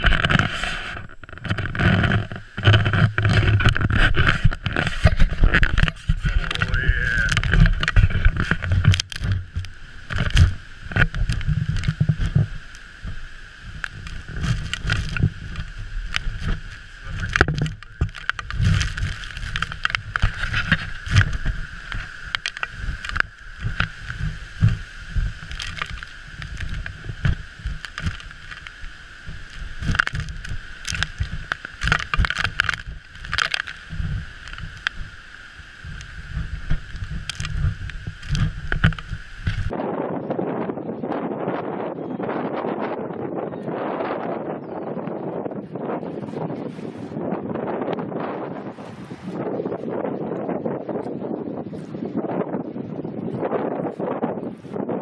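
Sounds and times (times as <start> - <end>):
low ship rumbling: 0.0 - 55.0.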